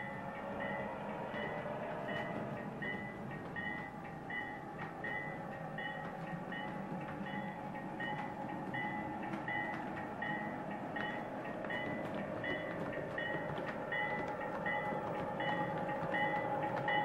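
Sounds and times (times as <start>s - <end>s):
locomotive bell ringing: 0.0s - 17.0s.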